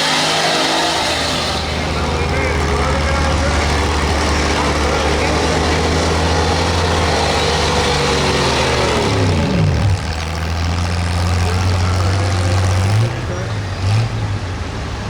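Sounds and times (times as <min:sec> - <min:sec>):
truck engine running hard: 0:00.0 - 0:15.0.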